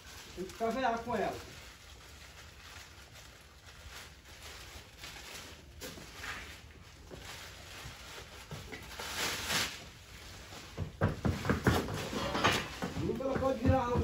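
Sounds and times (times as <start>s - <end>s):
plastic tarp rustling and crinkling: 0.0s - 14.0s.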